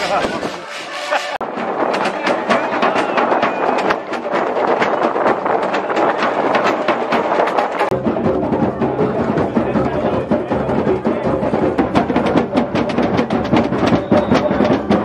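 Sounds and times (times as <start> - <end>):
deeper drums: 0.0 - 15.0
drum circle playing: 0.0 - 15.0.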